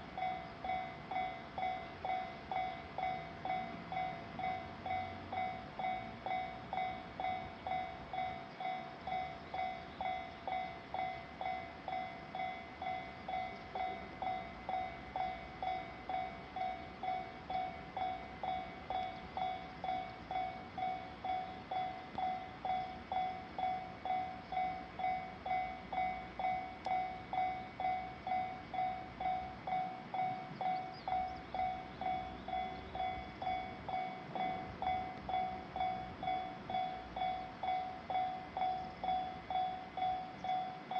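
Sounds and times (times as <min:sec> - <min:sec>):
level crossing alarm ringing: 0:00.0 - 0:40.9.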